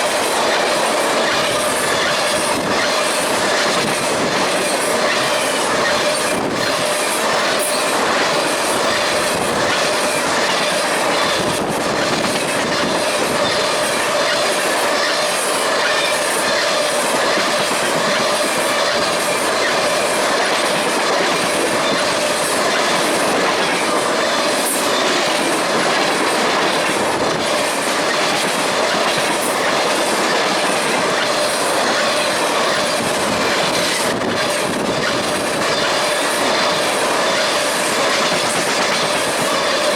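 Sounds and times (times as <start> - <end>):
train wheels clicking on rails: 0.0 - 39.9.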